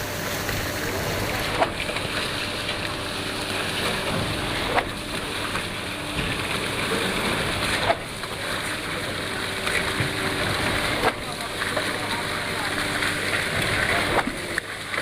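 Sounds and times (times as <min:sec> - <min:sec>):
concrete pump engine running: 0:00.0 - 0:15.0.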